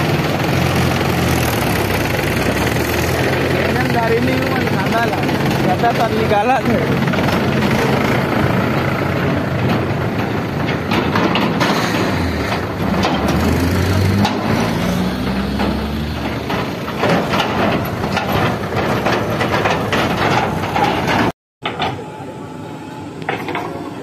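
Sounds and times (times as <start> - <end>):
trailer knocks and rattles: 0.0 - 22.0
tractor diesel engine running: 0.0 - 24.0.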